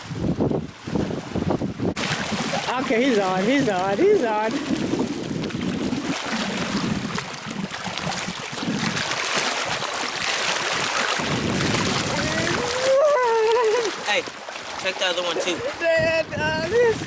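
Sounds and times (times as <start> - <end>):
lake water splashing and lapping: 0.0 - 17.0
steady wind: 0.0 - 17.0.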